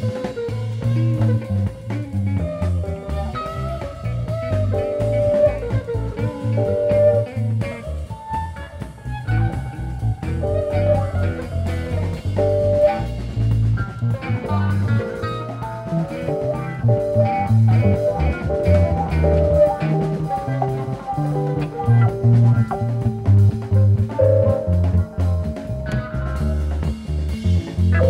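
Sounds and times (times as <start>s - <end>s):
bass guitar: 0.0s - 28.0s
drums: 0.0s - 28.0s
electric guitars: 0.0s - 28.0s.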